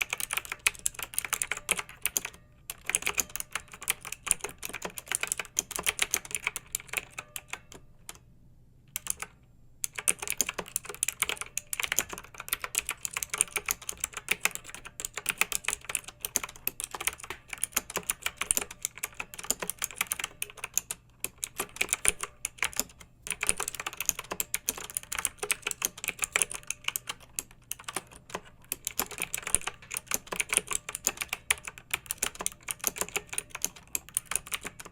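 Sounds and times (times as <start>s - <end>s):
mechanical keyboard typing: 0.0s - 8.2s, 8.9s - 34.9s.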